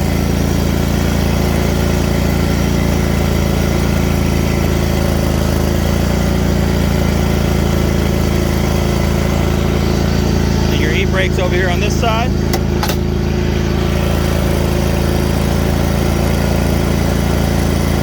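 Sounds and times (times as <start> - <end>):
mower engine running: 0.0 - 18.0.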